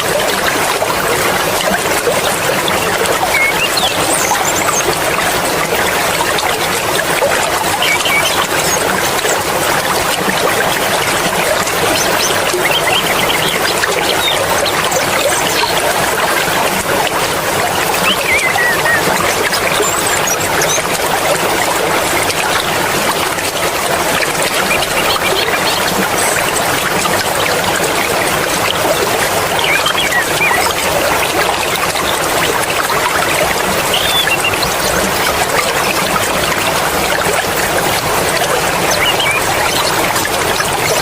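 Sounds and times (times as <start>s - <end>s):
stream water flowing and splashing: 0.0s - 41.0s.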